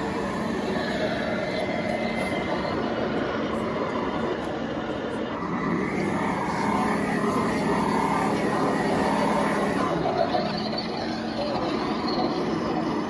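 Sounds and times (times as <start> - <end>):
crowd murmur: 0.0 - 13.0
model tank motor whine: 0.0 - 13.0.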